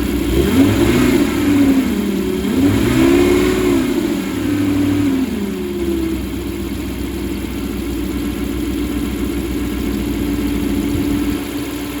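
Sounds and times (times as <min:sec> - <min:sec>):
engine idling: 0:00.0 - 0:12.0
engine whine: 0:00.0 - 0:12.0.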